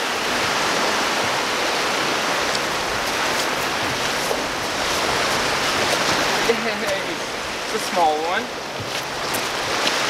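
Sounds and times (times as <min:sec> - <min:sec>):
waves washing on pebble beach: 0:00.0 - 0:10.0.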